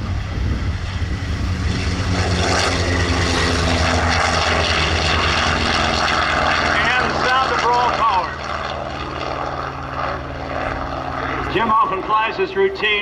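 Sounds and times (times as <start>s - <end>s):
propeller plane engine in flight: 0.0s - 13.0s.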